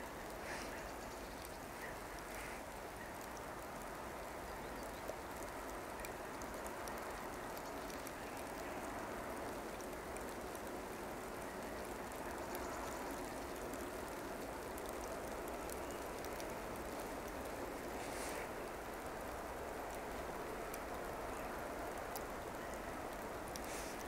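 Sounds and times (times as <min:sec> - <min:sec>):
light ticks: 0:00.1 - 0:24.0.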